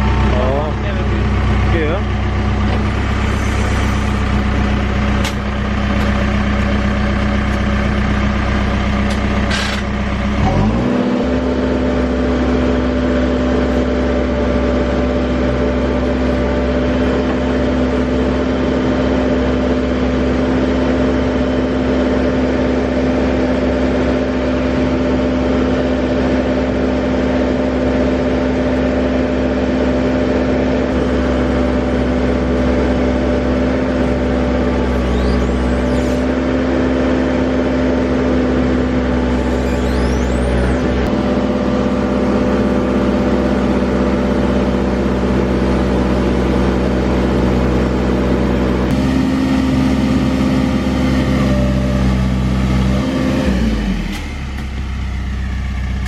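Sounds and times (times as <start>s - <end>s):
diesel engine revving: 0.0s - 23.0s, 29.4s - 56.0s.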